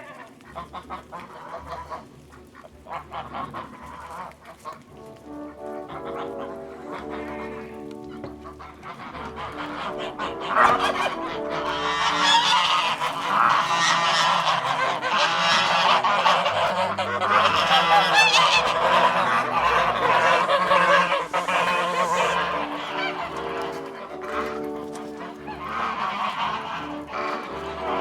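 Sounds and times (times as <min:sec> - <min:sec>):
geese honking: 0:00.0 - 0:28.0.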